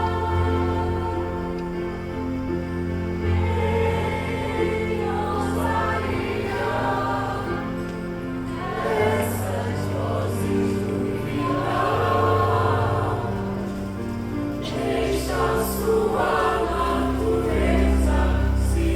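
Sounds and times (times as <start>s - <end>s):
choir singing: 0.0s - 18.9s.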